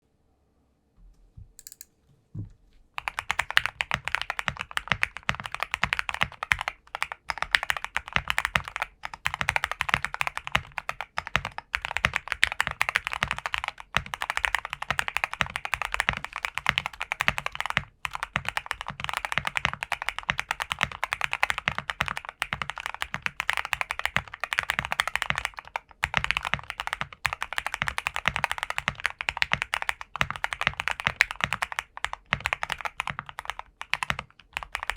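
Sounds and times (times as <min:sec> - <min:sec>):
mechanical keyboard typing: 0:01.6 - 0:01.9, 0:03.0 - 0:34.9.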